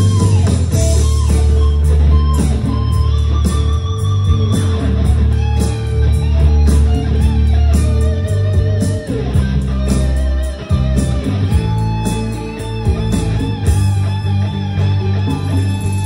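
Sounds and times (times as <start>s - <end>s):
deep sustained bass: 0.0s - 16.0s
electric guitar lead notes: 0.0s - 16.0s
strummed guitar: 0.0s - 16.0s.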